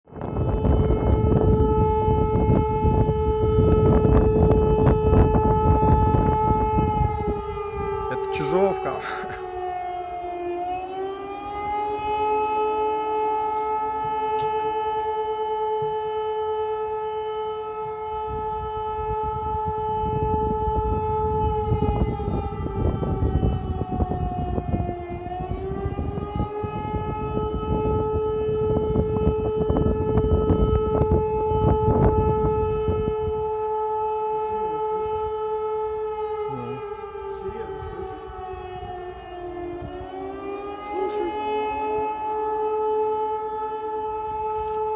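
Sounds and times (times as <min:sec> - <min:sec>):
two-tone alarm siren wailing: 0:00.1 - 0:44.9.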